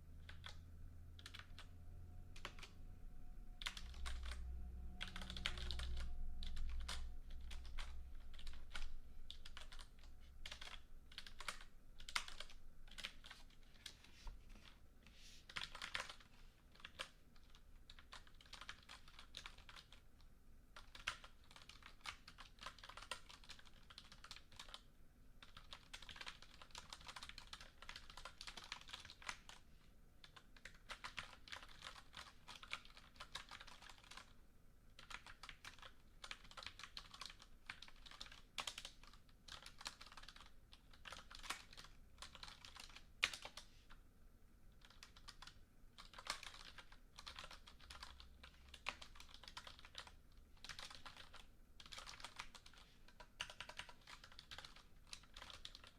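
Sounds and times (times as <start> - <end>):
typing on computer keyboard: 0.2 - 0.6, 1.2 - 1.7, 2.4 - 2.8, 3.6 - 14.0, 15.5 - 29.6, 30.2 - 44.0, 44.8 - 55.9.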